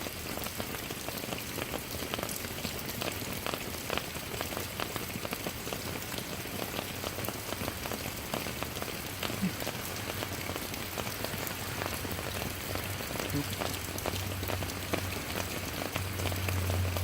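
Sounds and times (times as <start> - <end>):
raindrops ticking: 0.0 - 17.0
steady rain hissing: 0.0 - 17.0.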